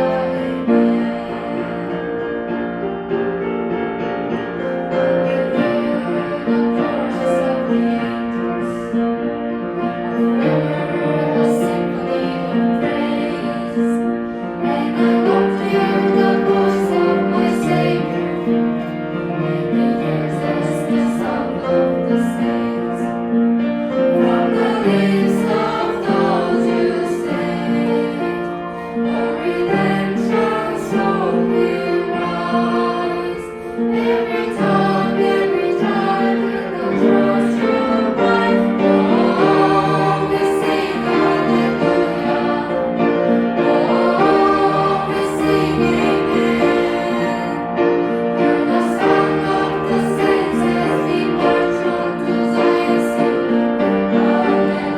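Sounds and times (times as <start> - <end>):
choir singing worship song: 0.0 - 54.9
piano accompaniment: 0.0 - 54.9.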